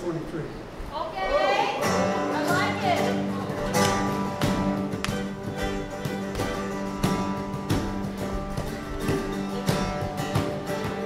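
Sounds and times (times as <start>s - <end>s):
acoustic guitars strumming: 1.4s - 11.0s.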